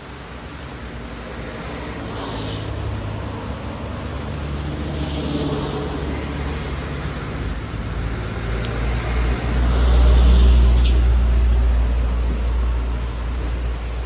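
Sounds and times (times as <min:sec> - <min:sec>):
constant rushing background: 0:00.0 - 0:14.0
vehicle engine hum: 0:00.0 - 0:14.0.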